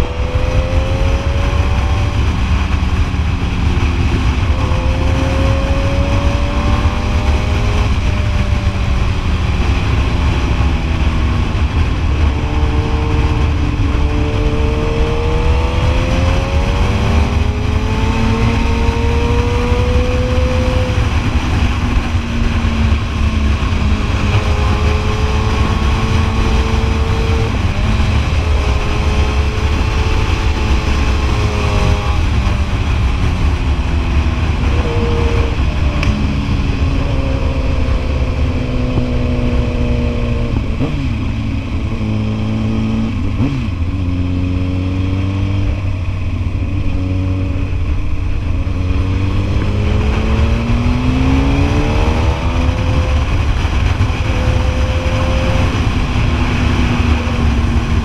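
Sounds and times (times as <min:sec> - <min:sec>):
heavy wind rumble on microphone: 0:00.0 - 0:58.0.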